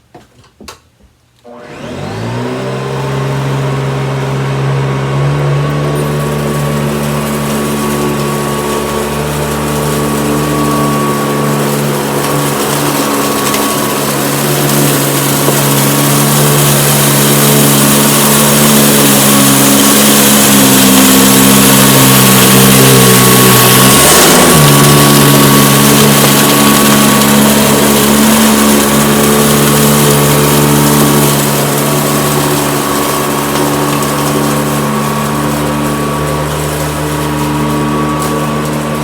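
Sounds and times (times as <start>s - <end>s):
vacuum cleaner running on carpet: 1.5s - 39.0s
vacuum picking up debris: 1.5s - 39.0s.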